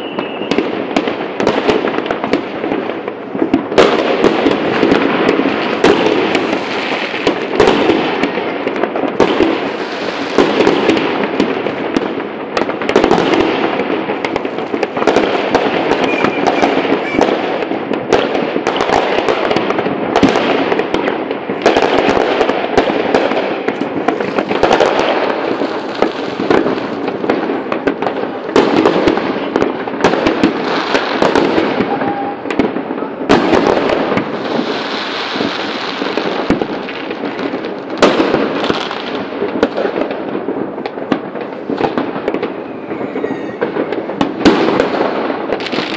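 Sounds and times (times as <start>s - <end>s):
fireworks crackling and banging: 0.0s - 45.9s.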